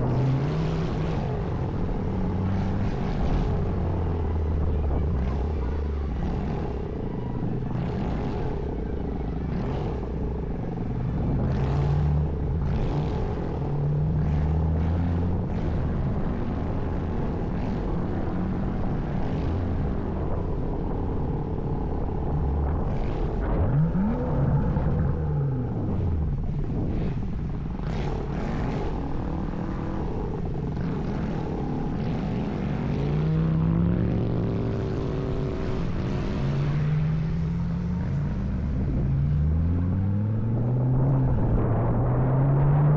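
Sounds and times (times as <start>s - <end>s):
car engine revving while driving: 0.0s - 42.9s.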